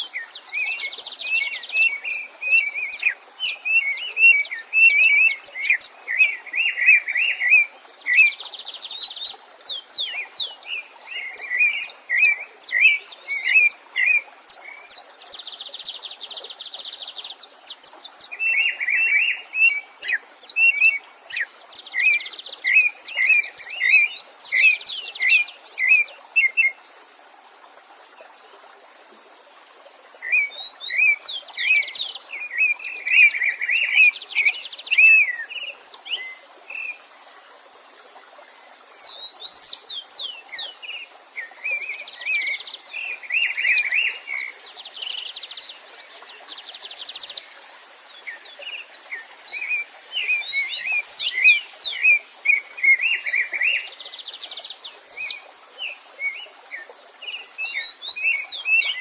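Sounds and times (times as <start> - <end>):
songbirds singing: 0.0 - 27.2, 29.6 - 59.0
faint stream: 0.0 - 59.0.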